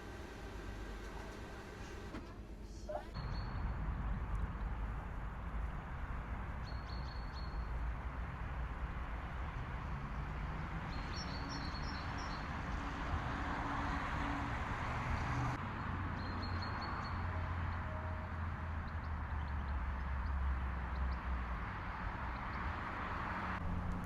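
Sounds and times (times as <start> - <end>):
distant traffic hum: 0.0 - 24.0.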